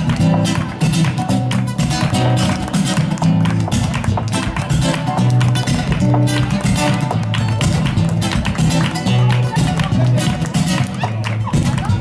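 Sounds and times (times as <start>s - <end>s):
fast rhythmic guitar: 0.0s - 12.0s
quick sharp hand claps: 0.0s - 12.0s.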